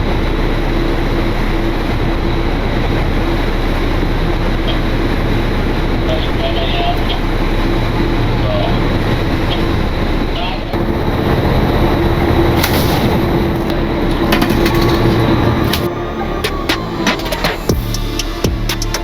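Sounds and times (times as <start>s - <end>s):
boat engine droning: 0.0s - 19.0s
water noise: 0.0s - 19.0s
wind: 0.0s - 19.0s.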